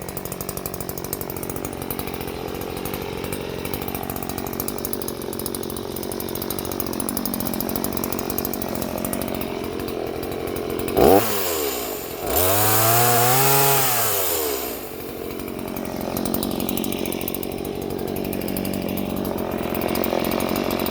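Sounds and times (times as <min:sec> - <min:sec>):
chainsaw engine idling and revving: 0:00.0 - 0:20.9.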